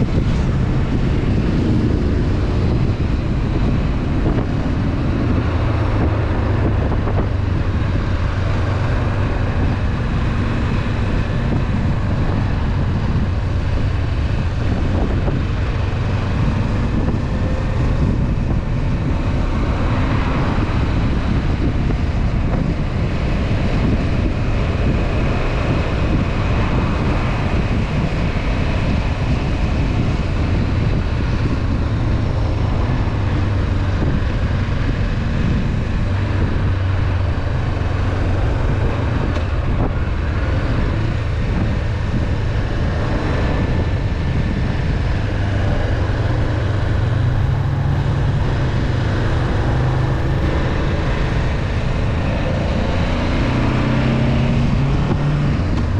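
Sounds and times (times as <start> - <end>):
motorcycle engine rumble: 0.0 - 55.9
wind noise on microphone: 0.0 - 55.9.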